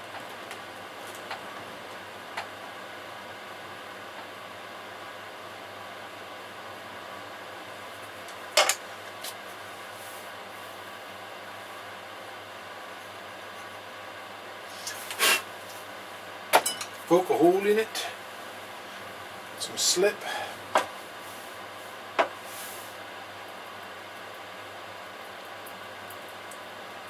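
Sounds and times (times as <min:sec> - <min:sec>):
pottery wheel humming: 0:00.0 - 0:25.0.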